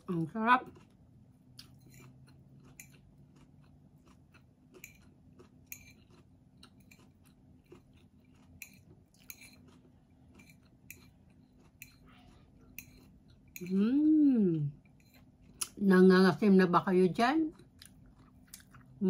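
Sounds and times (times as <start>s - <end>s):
mouth chewing with crunches: 0.0s - 15.8s, 17.4s - 19.0s.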